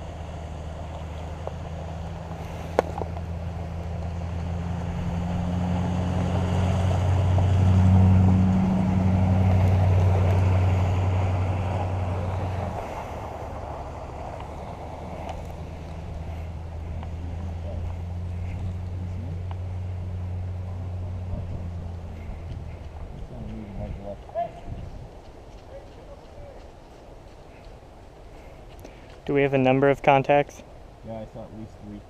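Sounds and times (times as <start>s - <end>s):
truck engine humming: 0.0s - 29.3s.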